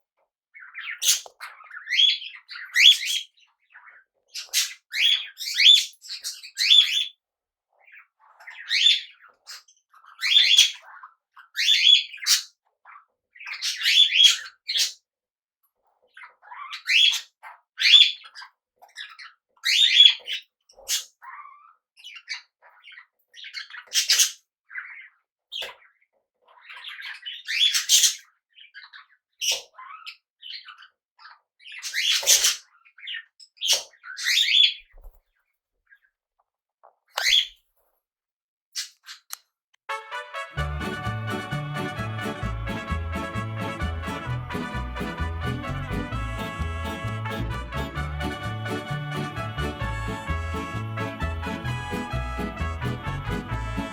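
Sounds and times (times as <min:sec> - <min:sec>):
parrots chirping and squawking: 0:00.6 - 0:15.0, 0:15.8 - 0:34.8, 0:37.1 - 0:37.6, 0:38.8 - 0:53.9.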